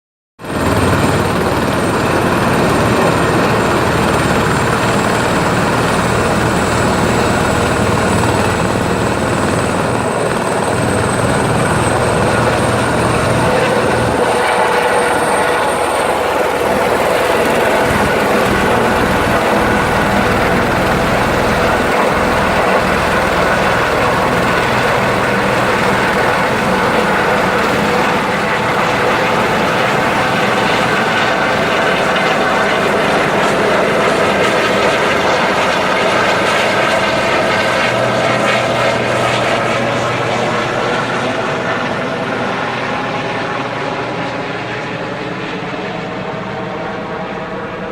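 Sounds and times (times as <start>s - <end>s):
helicopter turbine and rotor: 0.4s - 47.9s.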